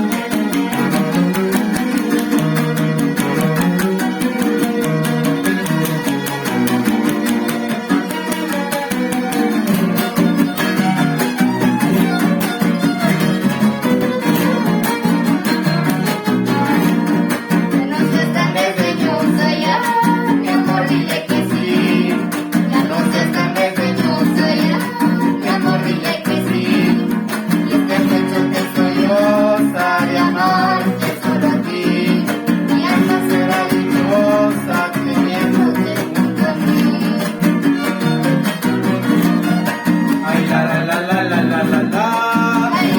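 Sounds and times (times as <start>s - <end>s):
strummed guitars: 0.0s - 42.9s
violin melody: 0.0s - 42.9s.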